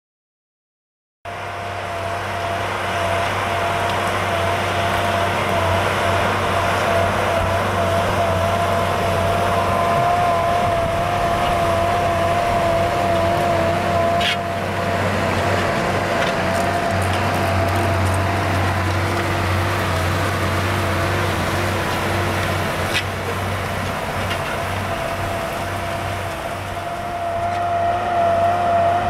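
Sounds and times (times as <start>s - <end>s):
high whine: 1.3s - 29.0s
tractor engine under load: 1.3s - 29.0s.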